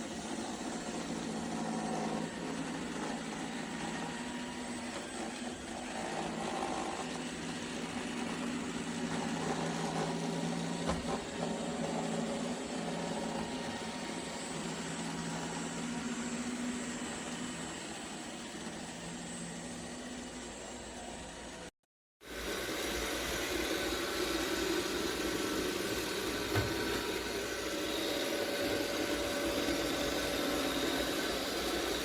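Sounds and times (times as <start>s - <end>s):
robot vacuum humming: 0.0s - 32.0s.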